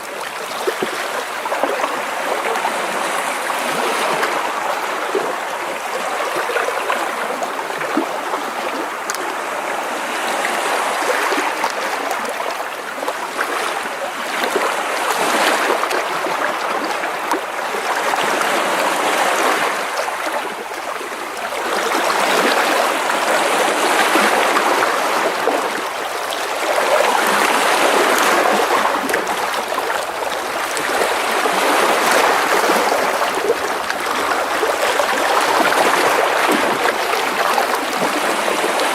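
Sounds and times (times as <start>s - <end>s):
sea waves splashing against rocks: 0.0s - 38.9s.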